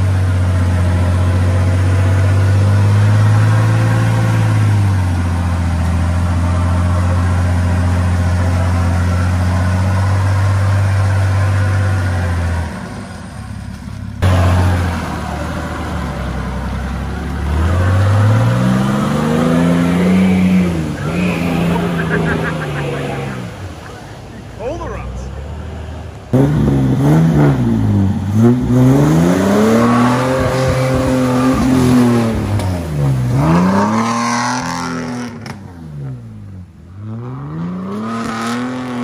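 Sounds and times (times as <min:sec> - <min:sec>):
vehicle engine under load: 0:00.0 - 0:39.0.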